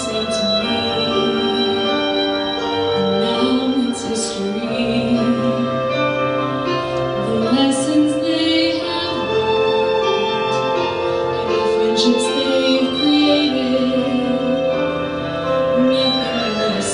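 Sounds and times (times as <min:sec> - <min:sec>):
instrumental accompaniment: 0:00.0 - 0:16.9.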